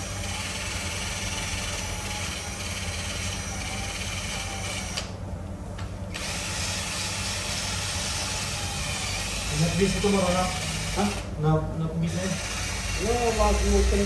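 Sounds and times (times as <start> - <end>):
machine hum and hissing whine: 0.0 - 14.0.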